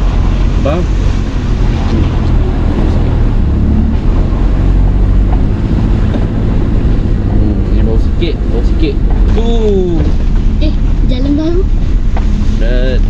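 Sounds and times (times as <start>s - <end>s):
tyres rumbling over dirt track: 0.0s - 13.0s
vehicle engine running: 0.0s - 13.0s.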